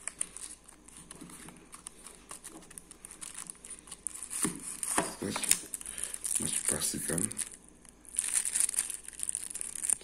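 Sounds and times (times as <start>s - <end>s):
paper packaging rustling: 0.0s - 10.0s.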